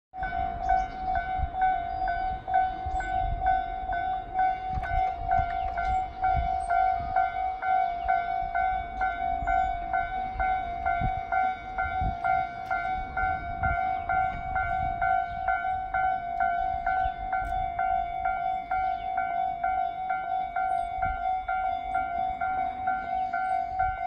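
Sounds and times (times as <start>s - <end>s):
level crossing warning bell: 0.2s - 24.0s.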